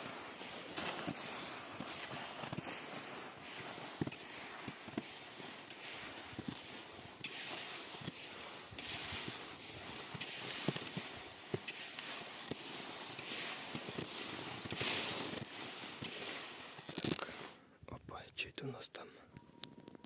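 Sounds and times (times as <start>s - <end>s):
clothing swishing and rustling: 0.0s - 17.6s
footsteps: 0.0s - 17.6s.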